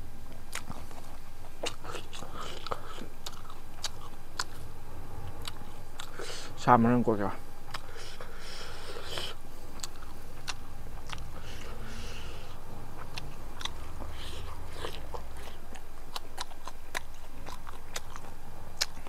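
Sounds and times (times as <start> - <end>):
person biting and chewing crunchily: 0.5 - 4.6, 5.3 - 6.5, 7.7 - 19.0.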